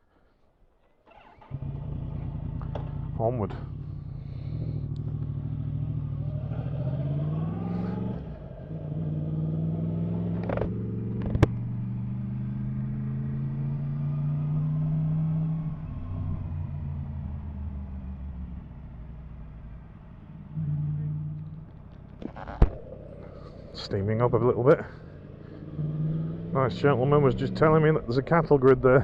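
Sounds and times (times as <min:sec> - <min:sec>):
motorcycle engine accelerating: 0:01.1 - 0:29.0.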